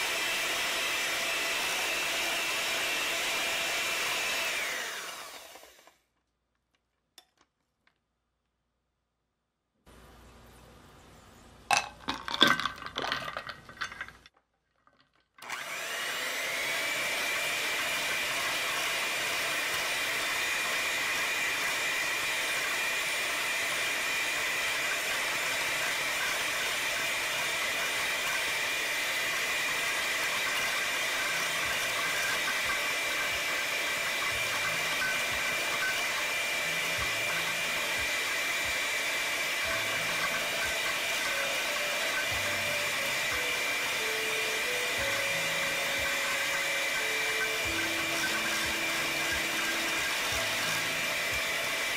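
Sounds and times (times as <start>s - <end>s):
electric hand mixer whining: 0.0s - 6.0s, 15.4s - 51.9s.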